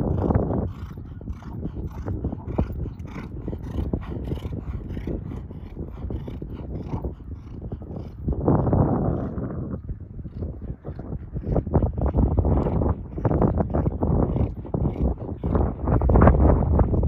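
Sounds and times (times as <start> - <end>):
muffled hoofbeats on sand: 0.0 - 17.0
wind buffeting microphone: 0.0 - 17.0.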